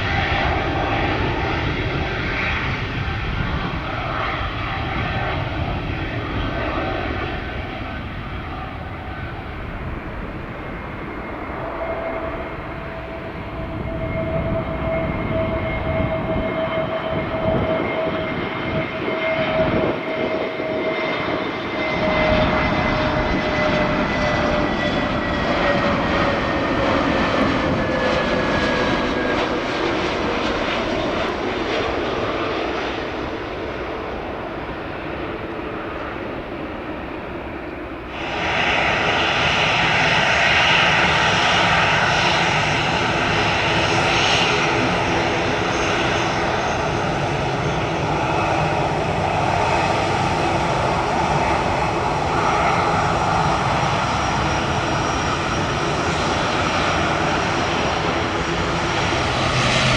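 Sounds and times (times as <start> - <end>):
aircraft engines with steady tones: 0.0 - 59.9
airliner engines whining: 0.0 - 59.9.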